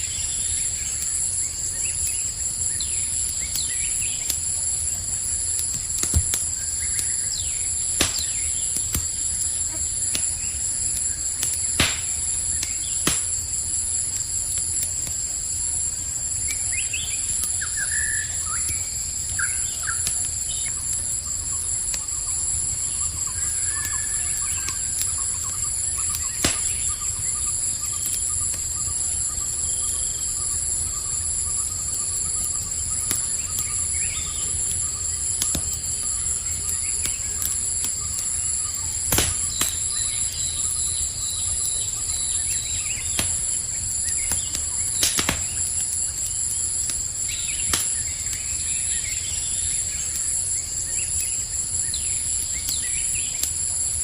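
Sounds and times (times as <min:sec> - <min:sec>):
campfire crackling and popping: 0:00.0 - 0:54.0
crickets chirring: 0:00.0 - 0:54.0.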